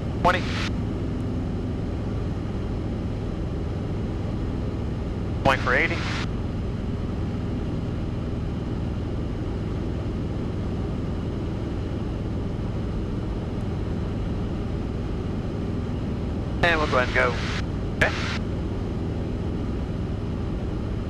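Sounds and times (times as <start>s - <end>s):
aircraft engine droning in cabin: 0.0s - 21.0s.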